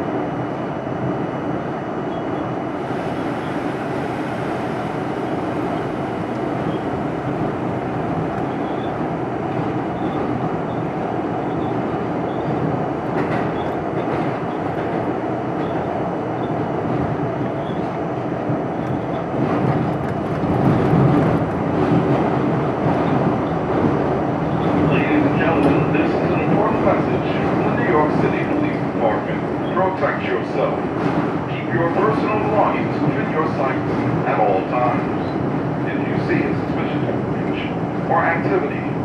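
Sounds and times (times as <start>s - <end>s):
subway train rumbling on track: 0.0s - 39.0s.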